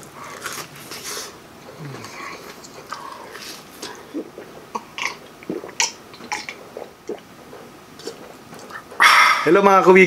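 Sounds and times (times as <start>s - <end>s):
wet chewing and lip smacking: 0.2s - 9.3s.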